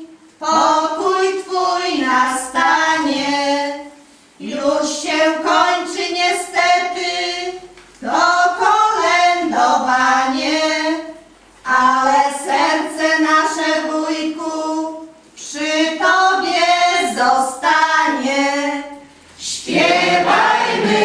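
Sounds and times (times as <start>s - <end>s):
woman singing a hymn: 0.0s - 21.0s.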